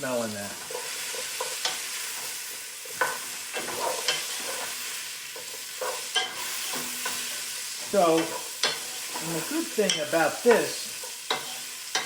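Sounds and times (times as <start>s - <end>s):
vegetables sizzling in oil: 0.0s - 12.0s
utensil scraping a pot: 0.5s - 10.1s, 11.0s - 12.0s.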